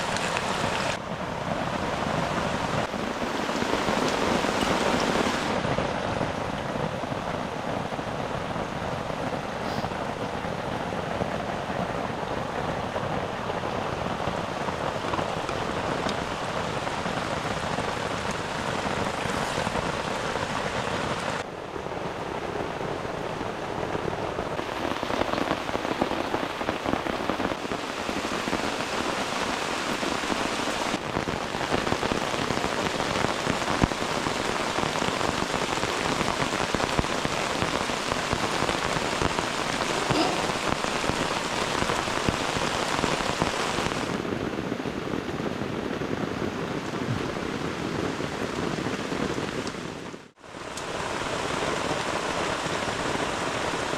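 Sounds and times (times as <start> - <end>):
heavy rain on a tent: 0.0 - 53.9.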